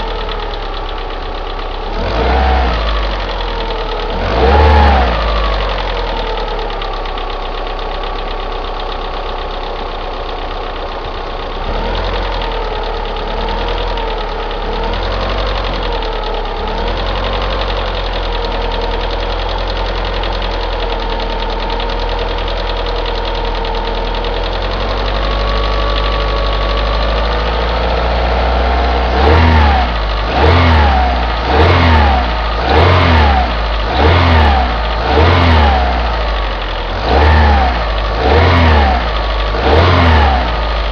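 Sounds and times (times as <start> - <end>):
car engine idling: 0.0 - 40.9
engine ticking: 0.0 - 40.9
engine revving: 1.8 - 7.4, 11.6 - 40.9.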